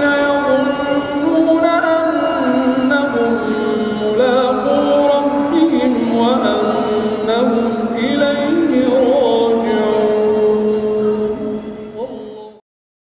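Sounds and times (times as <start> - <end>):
man chanting melodically: 0.0 - 12.6.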